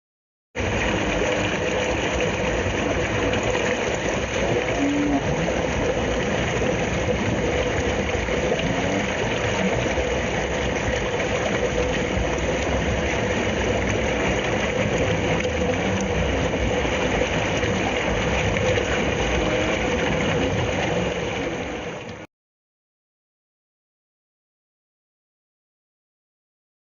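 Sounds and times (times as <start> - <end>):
running water rushing: 0.6 - 22.3.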